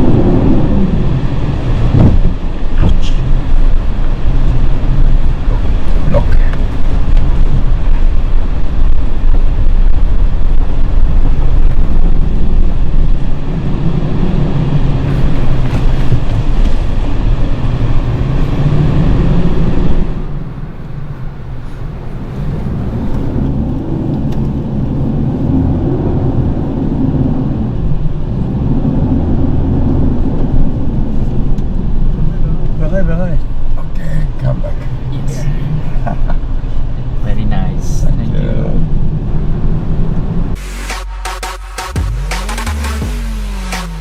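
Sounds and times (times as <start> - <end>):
vehicle engine rumble from cabin: 0.0 - 44.0.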